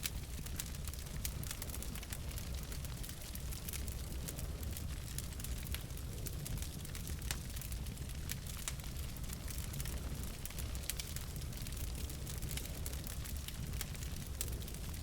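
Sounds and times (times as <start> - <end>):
logs crackling in a fireplace: 0.0 - 15.0.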